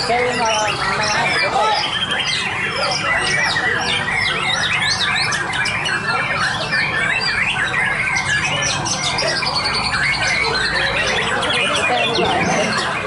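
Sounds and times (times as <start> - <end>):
birds singing in chorus: 0.0 - 13.0.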